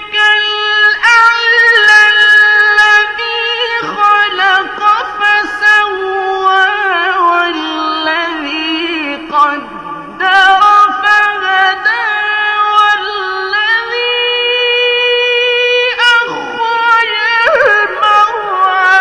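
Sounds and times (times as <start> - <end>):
person reciting melodically: 0.0 - 19.0.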